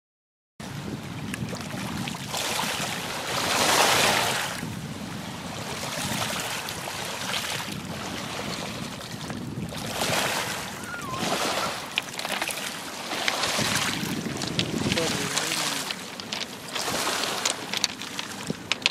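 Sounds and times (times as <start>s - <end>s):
wind rumbling on microphone: 0.6s - 18.9s
small waves washing over pebbles: 1.2s - 18.9s.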